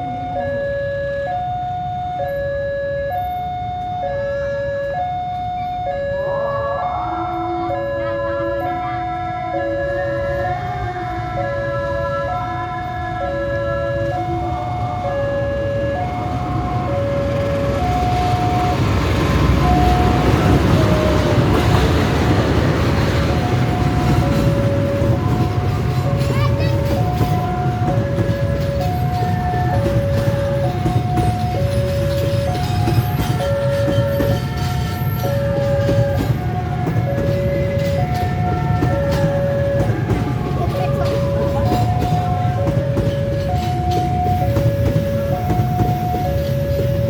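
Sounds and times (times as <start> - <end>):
level crossing two-tone alarm: 0.0 - 47.0
train rumble: 0.0 - 47.0.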